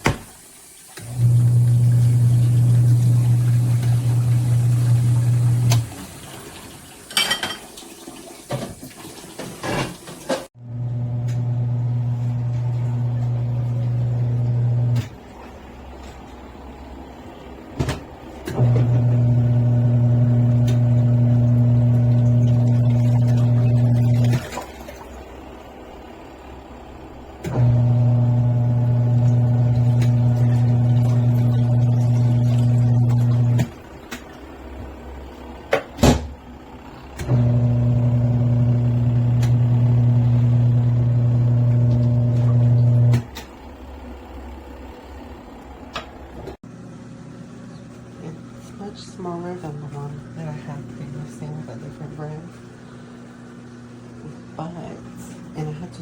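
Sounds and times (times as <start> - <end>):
washing machine motor humming: 0.0 - 56.0.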